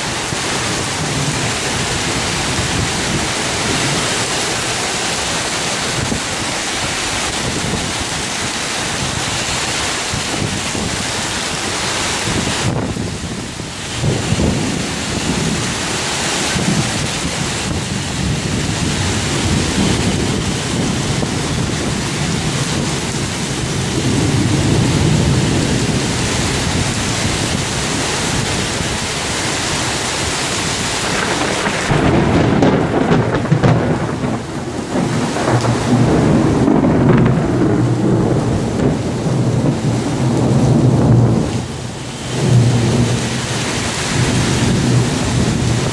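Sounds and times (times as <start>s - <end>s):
gusting storm wind: 0.0s - 45.9s
torrential rain: 0.0s - 45.9s.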